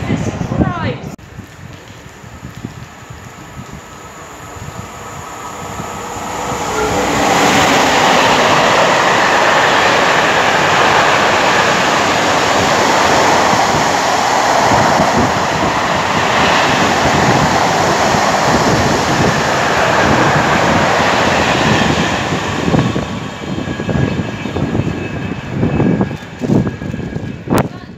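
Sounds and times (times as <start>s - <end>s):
freight train wheels on rails: 0.0s - 27.9s.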